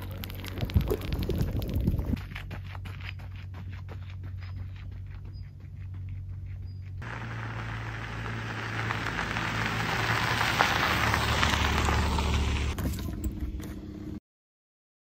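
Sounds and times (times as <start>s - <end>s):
tyres crunching over gravel: 0.0s - 13.8s
low engine hum: 0.0s - 14.2s.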